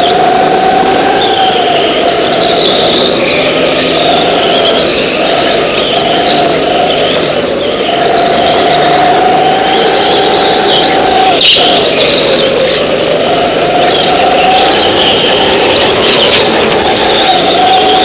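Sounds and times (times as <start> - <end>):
go-kart engine revving: 0.0 - 18.0.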